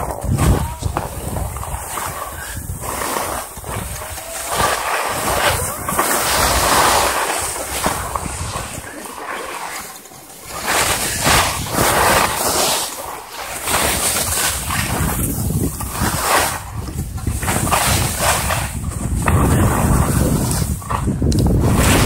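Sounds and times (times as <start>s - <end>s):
wind rushing over microphone: 0.0s - 9.0s, 10.4s - 22.0s
skis scraping over snow: 0.0s - 22.0s.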